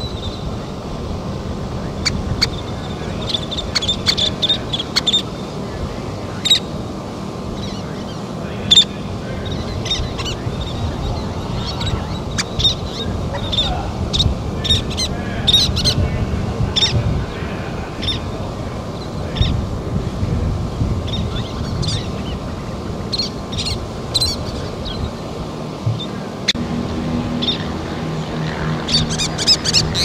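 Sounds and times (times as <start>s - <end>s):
low background rush: 0.0s - 30.0s
terns calling: 0.0s - 30.0s.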